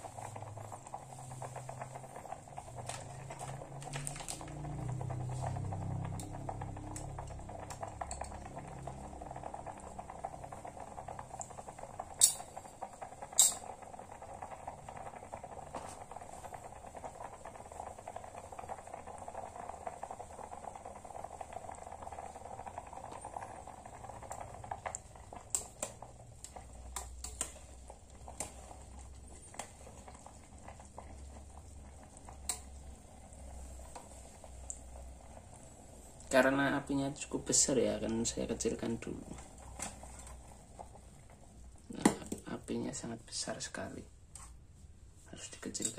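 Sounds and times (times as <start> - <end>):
water boiling in a mug: 0.0 - 44.2, 44.8 - 45.9.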